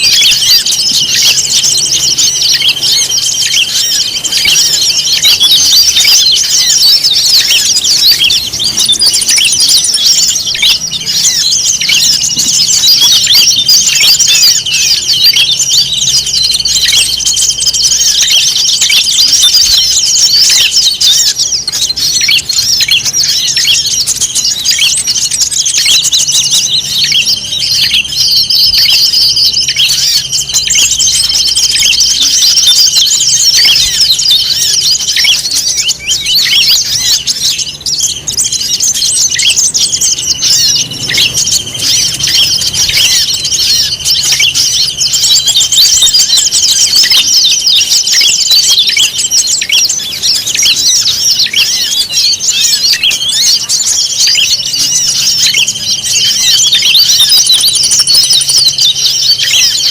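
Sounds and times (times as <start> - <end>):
songbirds chirping and twittering: 0.0 - 59.9.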